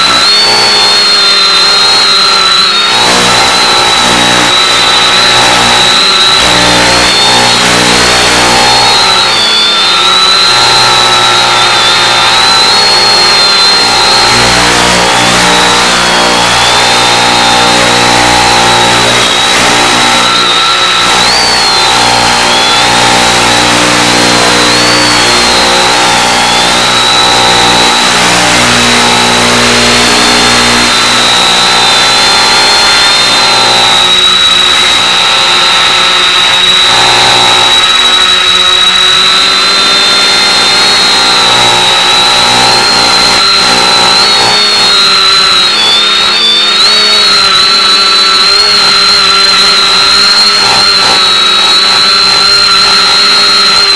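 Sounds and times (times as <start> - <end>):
quadcopter motors buzzing: 0.0 - 53.9.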